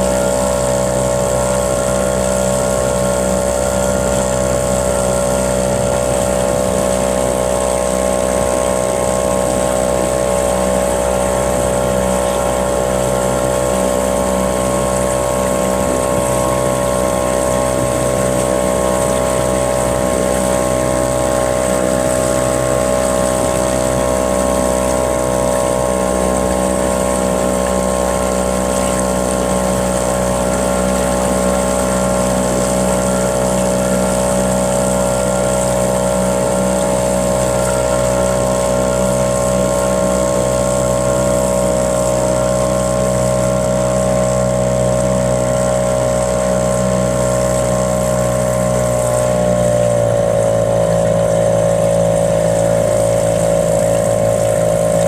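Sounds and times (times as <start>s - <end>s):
small boat motor running: 0.0s - 55.0s.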